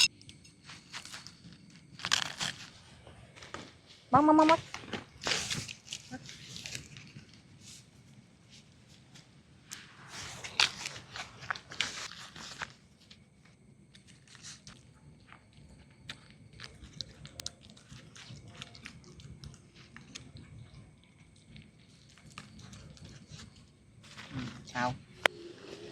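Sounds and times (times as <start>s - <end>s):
crunching and chewing: 0.0s - 3.8s, 4.6s - 9.0s, 10.4s - 24.8s.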